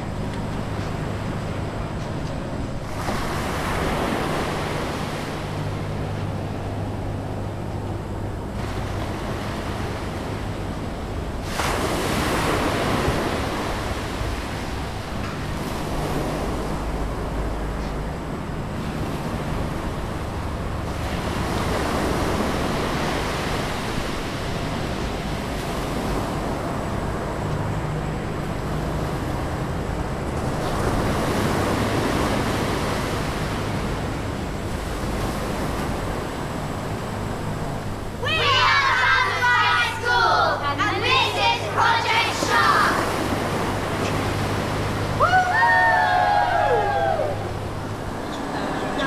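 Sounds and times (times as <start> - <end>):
ocean waves washing on shore: 0.0 - 49.0.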